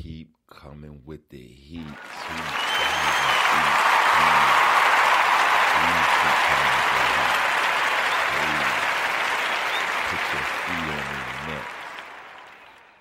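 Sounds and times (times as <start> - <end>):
applause: 1.8 - 13.0.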